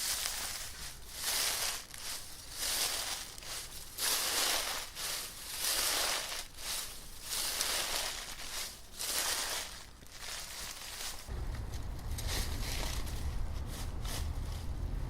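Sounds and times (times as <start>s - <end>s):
dry leaves crunching underfoot: 0.0s - 15.0s.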